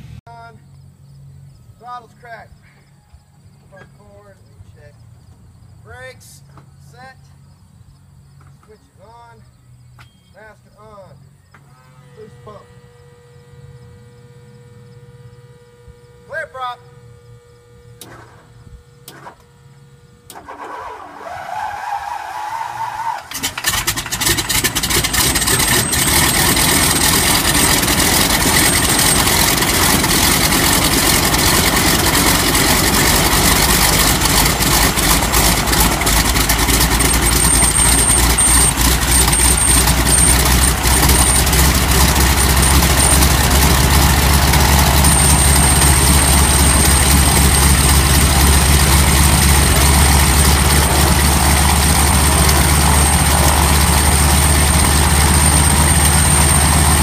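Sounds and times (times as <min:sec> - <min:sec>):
radial aircraft engine idling: 0:00.0 - 0:21.3, 0:22.7 - 0:57.0.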